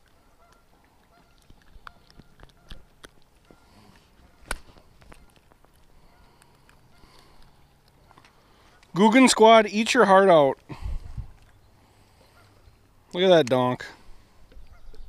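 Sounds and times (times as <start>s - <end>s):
hands handling fish and tackle: 0.0s - 15.0s.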